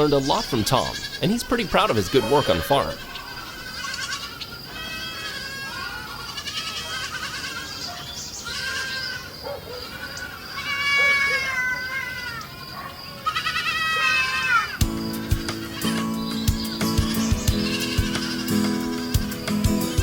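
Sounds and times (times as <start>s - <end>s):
sheep bleating: 0.0s - 7.8s, 8.4s - 12.4s, 13.2s - 14.8s, 15.5s - 19.3s.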